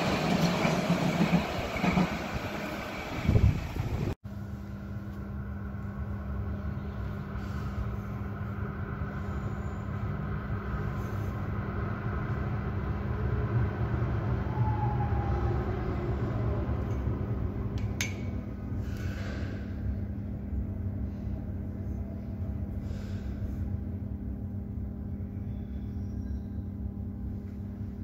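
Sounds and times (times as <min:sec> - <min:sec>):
train rumbling: 0:00.0 - 0:28.0
constant hum: 0:03.3 - 0:28.0.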